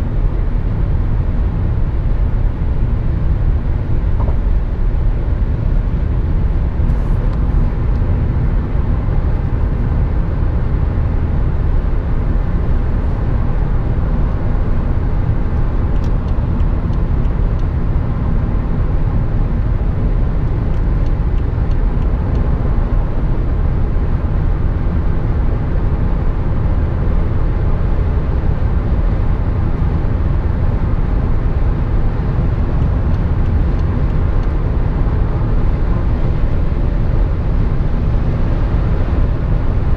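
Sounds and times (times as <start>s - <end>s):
faint engine hum: 0.0s - 39.9s
in-cabin tyre and wind rumble: 0.0s - 39.9s.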